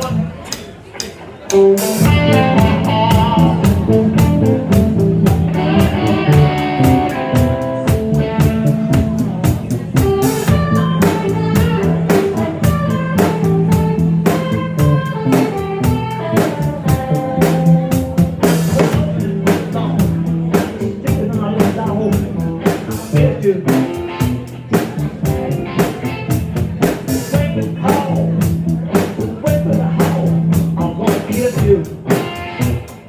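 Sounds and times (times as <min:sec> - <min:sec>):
bass guitar: 0:00.0 - 0:33.0
drum kit beat: 0:00.0 - 0:33.0
electric guitar: 0:01.4 - 0:33.0.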